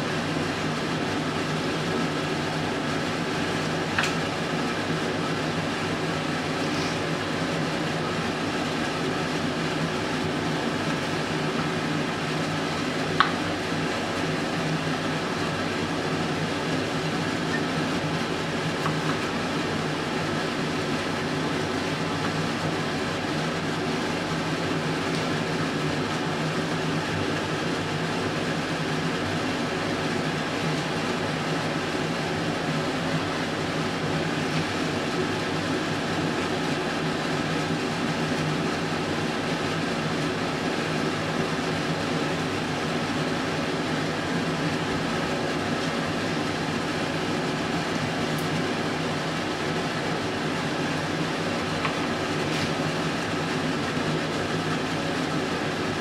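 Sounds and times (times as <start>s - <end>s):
mechanical hum and hiss: 0.0s - 56.0s.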